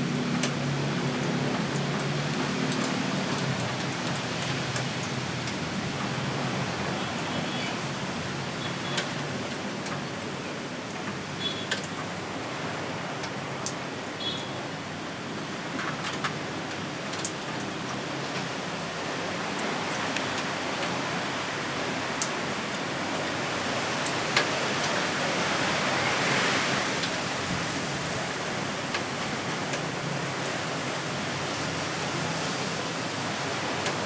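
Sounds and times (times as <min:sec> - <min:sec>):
wind rushing through leaves: 0:00.0 - 0:34.0.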